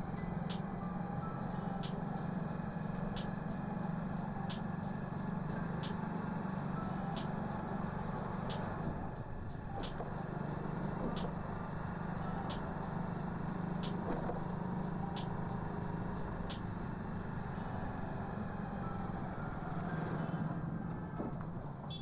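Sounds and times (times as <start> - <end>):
motorcycle engine running: 0.0 - 20.4.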